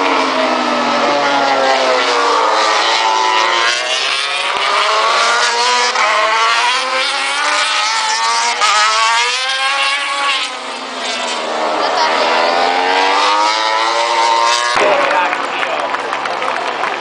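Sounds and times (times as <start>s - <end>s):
race bike engines revving: 0.0s - 17.0s.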